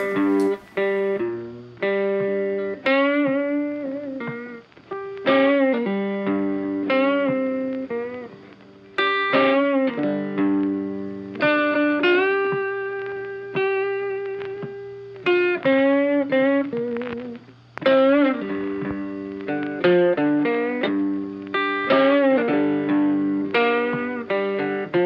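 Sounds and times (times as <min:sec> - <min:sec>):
slow guitar melody: 0:00.0 - 0:25.0.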